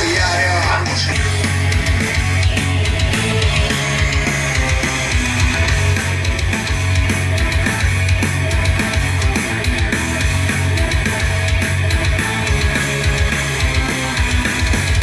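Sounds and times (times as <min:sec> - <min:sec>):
punk rock with heavy bass: 0:00.0 - 0:15.0.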